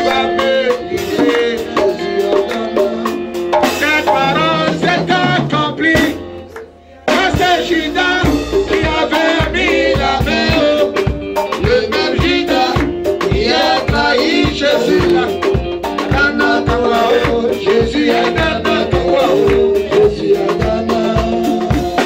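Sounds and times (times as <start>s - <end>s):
man singing into a microphone: 0.0s - 6.4s, 7.1s - 22.0s
band with steady drum beat: 0.0s - 22.0s.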